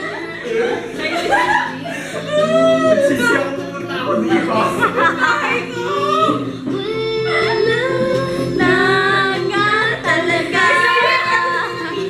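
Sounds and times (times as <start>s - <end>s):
pop song with sung vocals: 0.0s - 12.0s.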